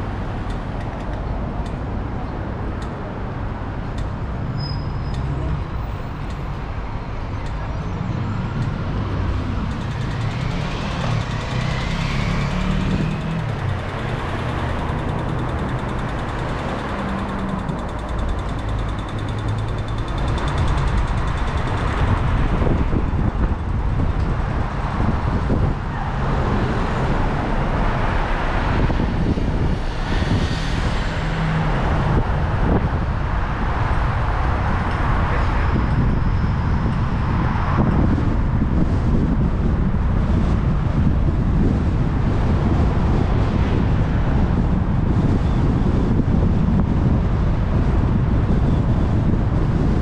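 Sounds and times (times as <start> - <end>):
surrounding traffic: 0.0 - 50.0
tyre and engine rumble: 0.0 - 50.0.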